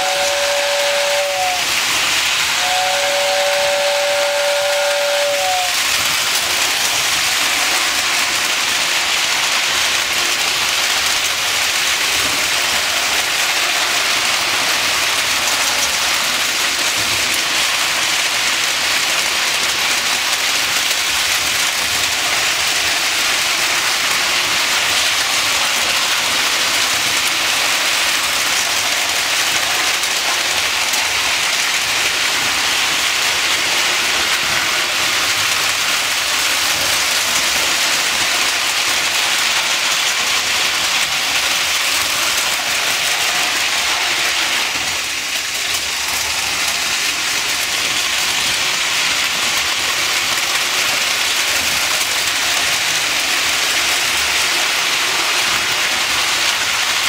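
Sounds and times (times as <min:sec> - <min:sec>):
toy train wheels clattering on rails: 0:00.0 - 0:57.0.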